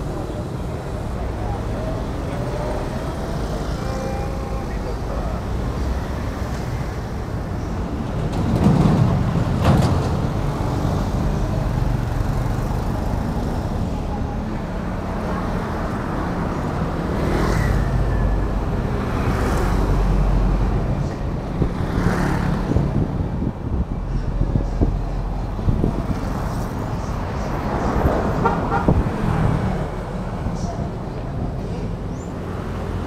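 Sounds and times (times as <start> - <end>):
cars driving past: 0.0 - 33.0
low traffic rumble: 0.0 - 33.0.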